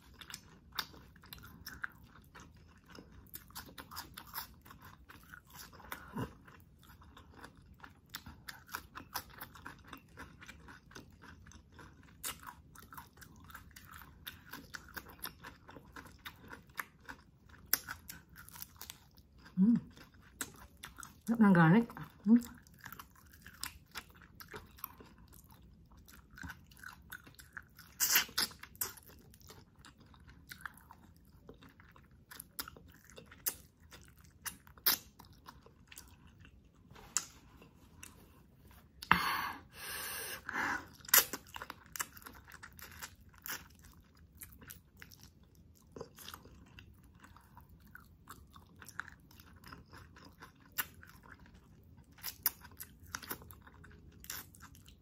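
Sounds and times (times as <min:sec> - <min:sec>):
person chewing with smacking: 0:00.0 - 0:39.2, 0:40.4 - 0:55.0.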